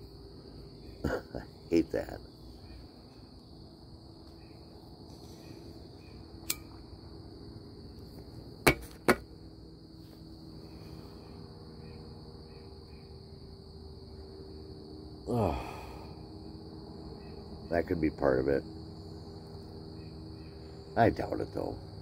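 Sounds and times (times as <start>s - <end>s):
crickets chirping: 0.0s - 22.0s
faint low hum: 0.0s - 22.0s.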